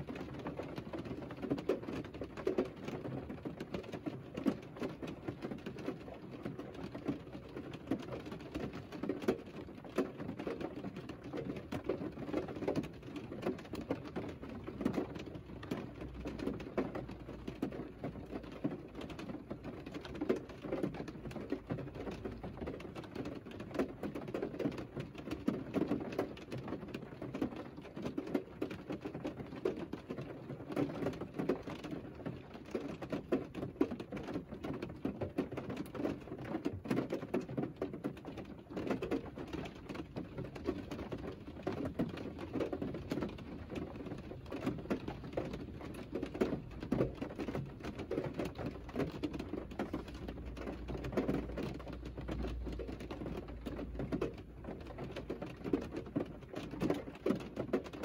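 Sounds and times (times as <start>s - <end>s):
rain on car roof from inside: 0.0s - 58.0s.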